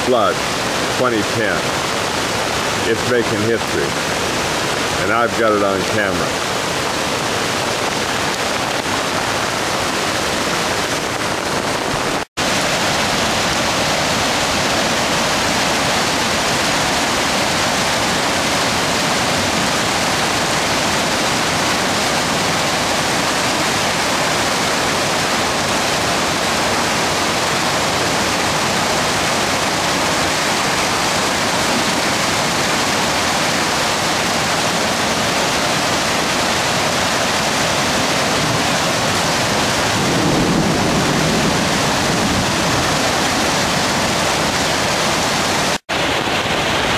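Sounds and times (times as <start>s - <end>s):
creek water rushing: 0.0s - 46.9s.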